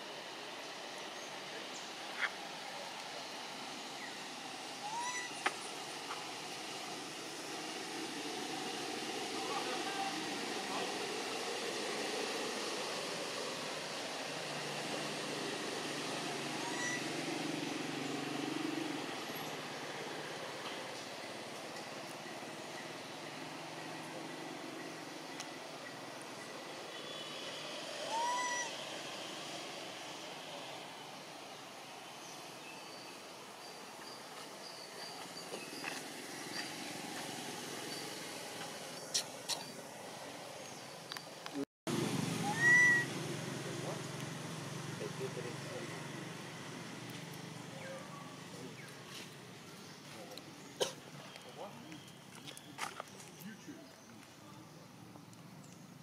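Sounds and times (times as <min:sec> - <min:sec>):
steady hiss: 0:00.0 - 0:51.8
distant vehicle engine hum: 0:00.0 - 0:56.0.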